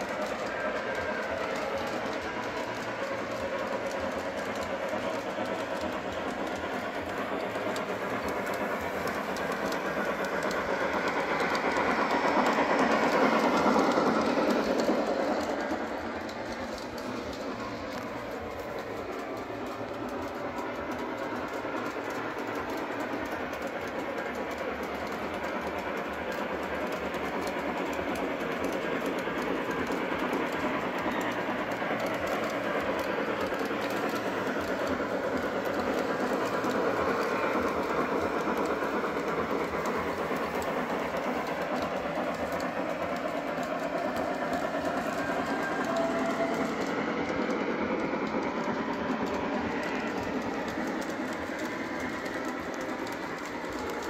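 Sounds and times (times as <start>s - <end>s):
locomotive steam sound effects: 0.0s - 54.0s
model train wheels clattering on rails: 0.0s - 54.0s.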